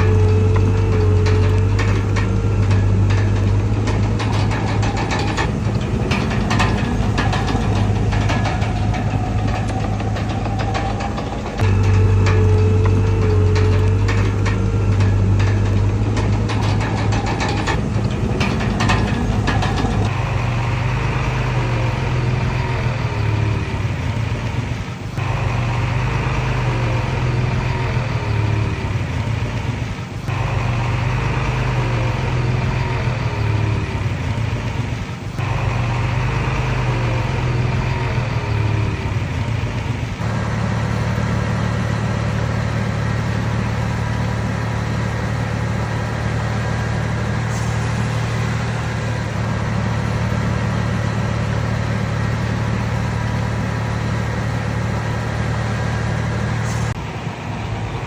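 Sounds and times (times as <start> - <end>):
metallic clicking and clanking: 0.0 - 57.0
heavy diesel engine running: 0.0 - 58.0.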